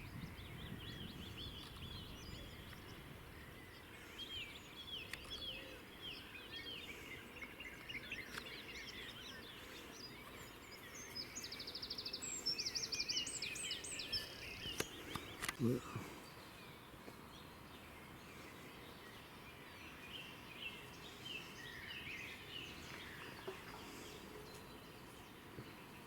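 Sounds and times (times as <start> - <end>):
small birds singing and chirping: 0.0 - 26.0.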